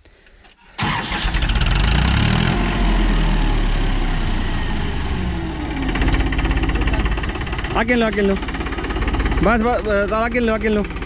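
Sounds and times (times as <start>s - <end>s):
tractor diesel engine running: 0.7s - 11.0s.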